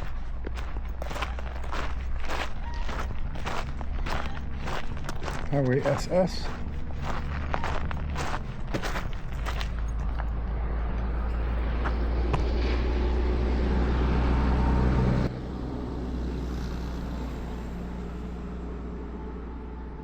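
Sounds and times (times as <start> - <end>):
car approaching: 0.0 - 20.0
steady road noise: 0.0 - 20.0.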